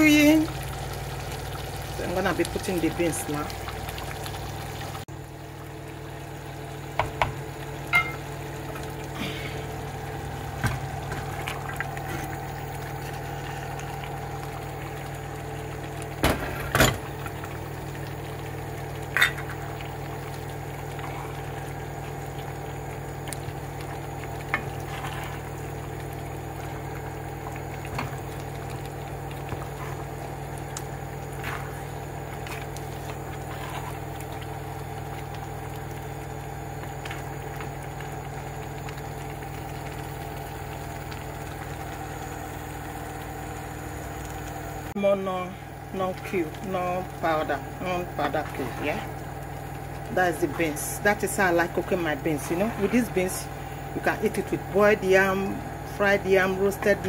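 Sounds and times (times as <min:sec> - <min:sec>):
stew simmering: 0:00.0 - 0:57.0
washing machine humming: 0:00.0 - 0:57.0.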